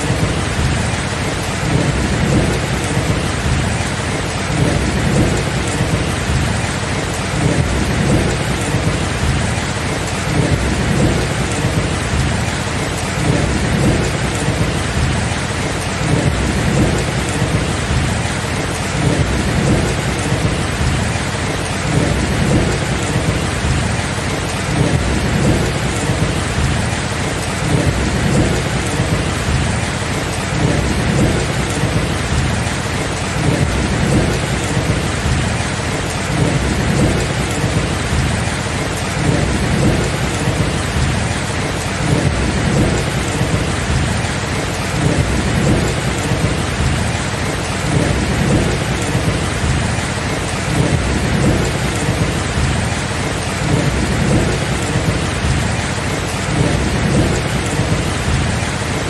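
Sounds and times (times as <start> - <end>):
heavy rain: 0.0 - 59.0
low thunder rumbling: 0.0 - 59.0.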